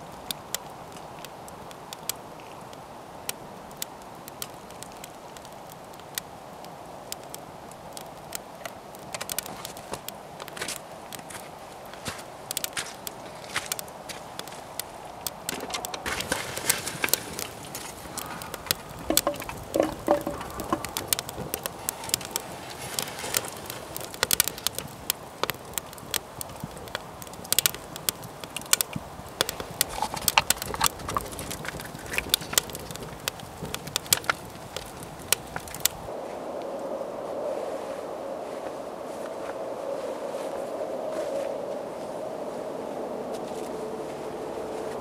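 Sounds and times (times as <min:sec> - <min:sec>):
wood fire crackling and popping: 0:00.0 - 0:36.2.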